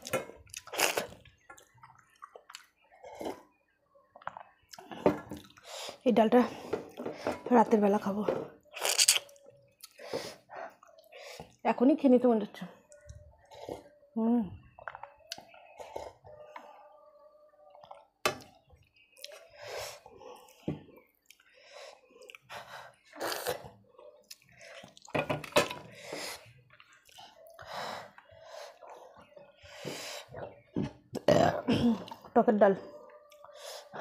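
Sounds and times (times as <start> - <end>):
chewing and squelching: 0.0 - 6.0, 8.6 - 11.6, 12.8 - 25.2, 25.8 - 31.2, 32.0 - 34.0.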